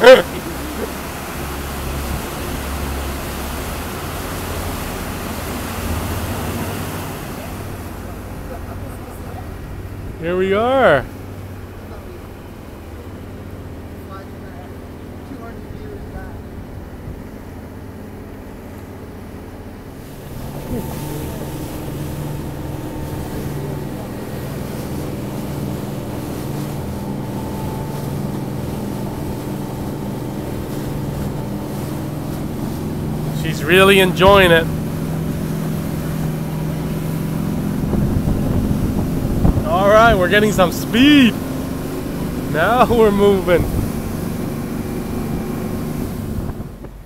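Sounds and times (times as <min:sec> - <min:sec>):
motorboat engine humming: 0:00.0 - 0:47.0
water rushing along hull: 0:00.0 - 0:47.0.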